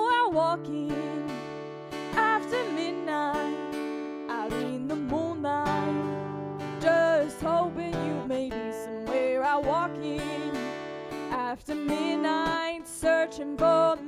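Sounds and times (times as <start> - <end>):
strummed acoustic guitar: 0.0 - 14.0
woman singing: 0.0 - 14.0.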